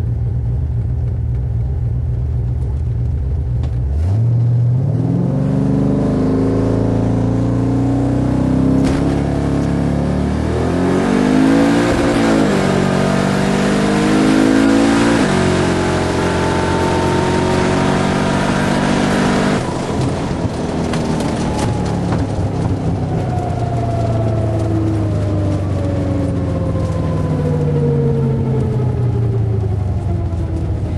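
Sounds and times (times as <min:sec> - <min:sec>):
car engine at full throttle: 0:00.0 - 0:30.9.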